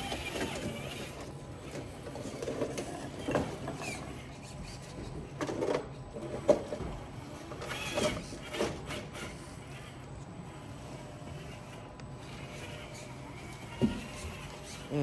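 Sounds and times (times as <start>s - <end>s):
electric motor whining: 0.0s - 4.4s, 6.4s - 15.0s.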